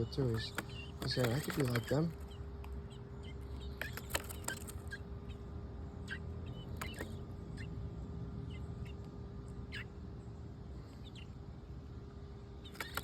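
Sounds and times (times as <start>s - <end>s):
high bird chirps: 0.0s - 11.4s, 12.6s - 13.0s
low steady background rumble: 0.0s - 13.0s.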